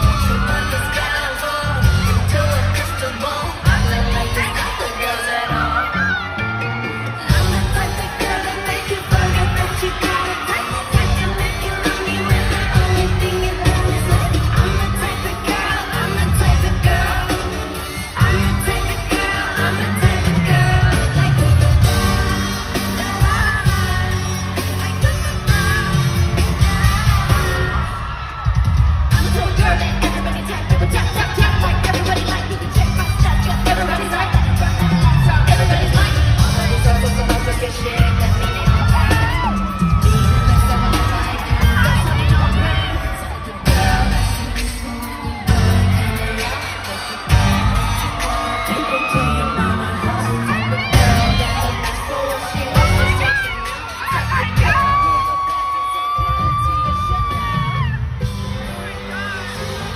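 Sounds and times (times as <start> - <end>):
fans whooping: 0.0 - 59.9
pop song with women singing: 0.0 - 59.9.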